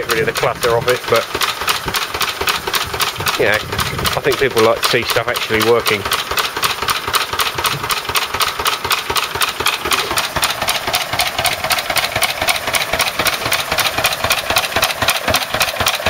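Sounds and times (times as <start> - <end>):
stationary engine running: 0.0 - 16.0.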